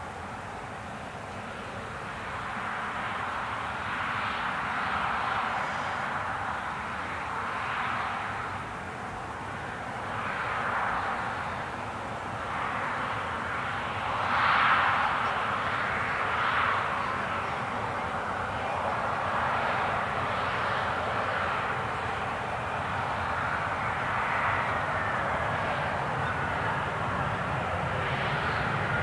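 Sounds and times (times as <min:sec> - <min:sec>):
airliner jet engine noise: 0:00.0 - 0:29.0.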